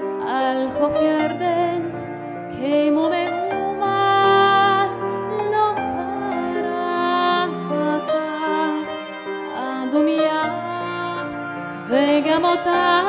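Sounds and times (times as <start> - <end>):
instrumental accompaniment: 0.0 - 13.0
woman singing into microphone: 0.0 - 13.0.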